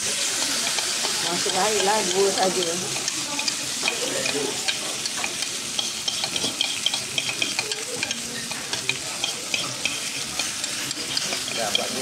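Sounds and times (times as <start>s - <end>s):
batter sizzling on griddle: 0.0s - 12.0s
spoons scraping mixing bowls: 0.3s - 12.0s.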